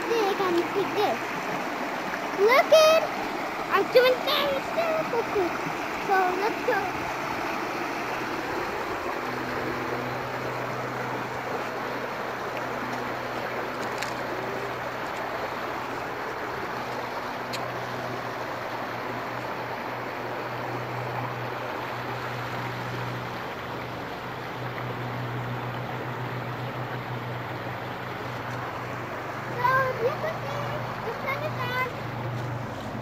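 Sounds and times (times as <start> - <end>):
river water running over rocks: 0.0 - 33.0.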